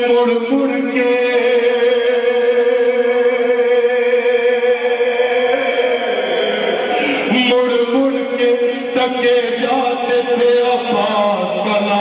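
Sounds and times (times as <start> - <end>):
man singing a long held note: 0.0 - 11.8.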